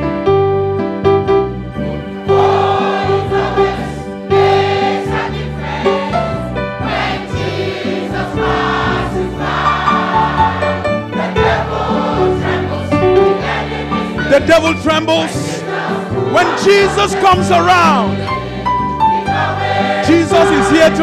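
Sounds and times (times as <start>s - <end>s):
instrumental accompaniment: 0.0s - 21.0s
church choir singing gospel: 1.8s - 21.0s.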